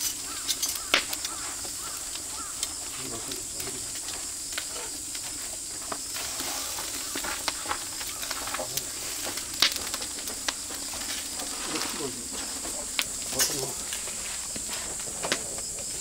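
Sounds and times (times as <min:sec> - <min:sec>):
fire crackling and popping: 0:00.0 - 0:16.0
meat sizzling on a grill: 0:00.0 - 0:16.0.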